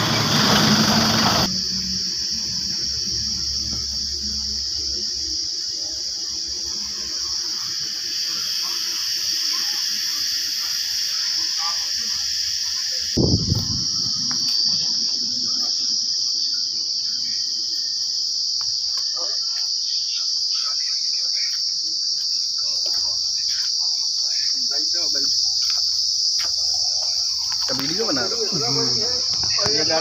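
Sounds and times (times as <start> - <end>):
insect chorus shrill drone: 0.0 - 30.0.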